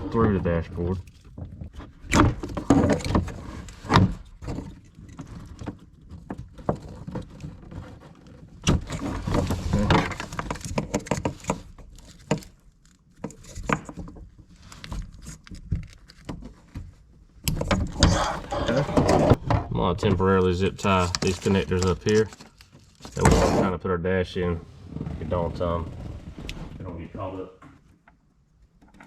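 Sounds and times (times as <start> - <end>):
clattering and rustling: 0.0 - 23.7.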